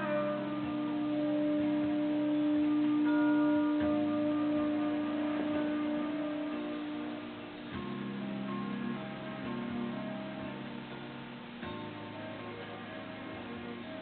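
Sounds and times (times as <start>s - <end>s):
higher sustained notes: 0.0s - 14.0s.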